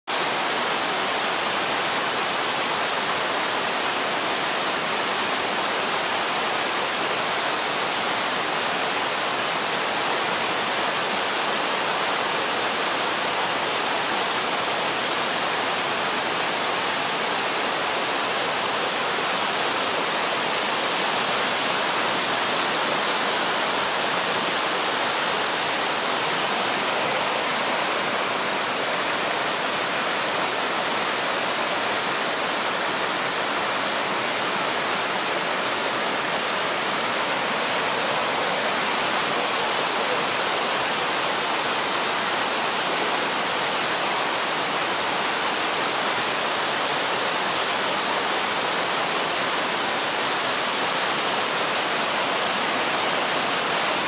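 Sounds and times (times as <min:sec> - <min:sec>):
stream rushing over rocks: 0:00.1 - 0:54.0.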